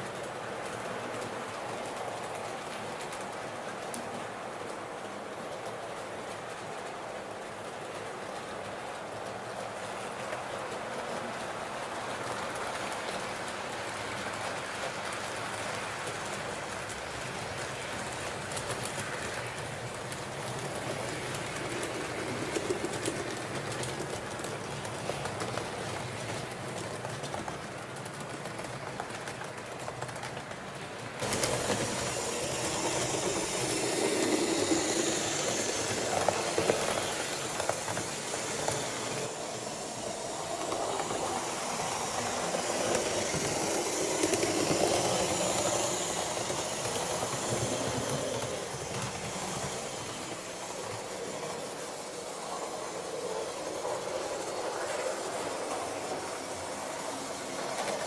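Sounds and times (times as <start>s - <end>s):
train rumble and hiss: 0.0s - 58.0s
rail clatter: 7.7s - 58.0s.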